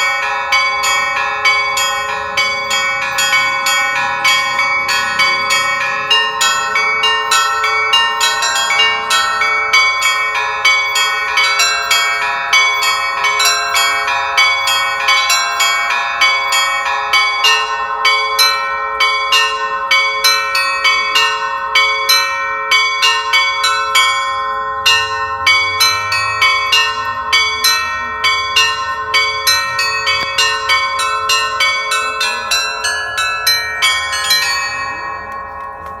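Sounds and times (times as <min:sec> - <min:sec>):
church bells pealing: 0:00.0 - 0:36.0.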